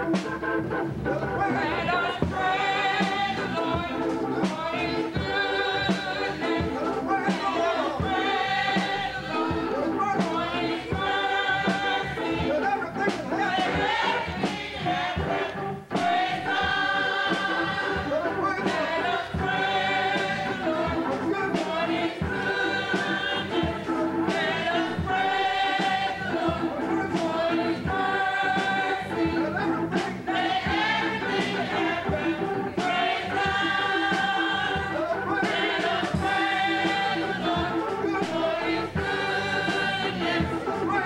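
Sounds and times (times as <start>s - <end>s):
gospel choir singing: 0.0s - 41.0s.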